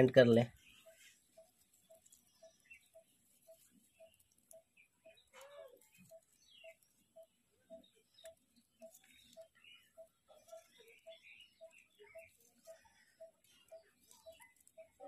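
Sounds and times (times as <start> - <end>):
faint high chirps: 0.0 - 15.0
faint steady ticking: 0.0 - 15.0.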